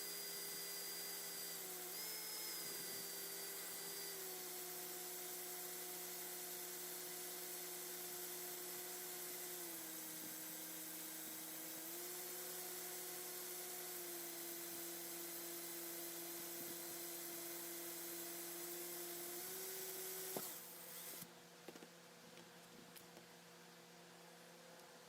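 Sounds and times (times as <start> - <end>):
small electric drill whining: 0.0 - 21.3.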